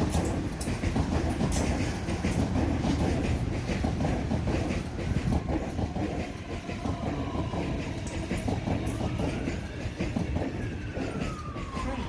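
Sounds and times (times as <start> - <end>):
train wheels rumbling over rail joints: 0.0 - 12.0.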